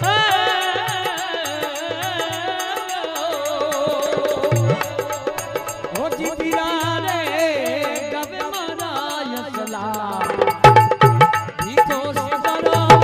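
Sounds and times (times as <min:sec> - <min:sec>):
hand drum rhythm: 0:00.0 - 0:13.0.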